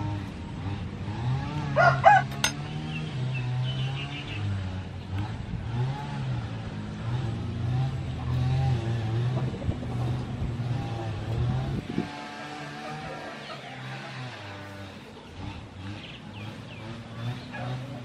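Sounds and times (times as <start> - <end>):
engine revving unevenly: 0.0 - 18.0.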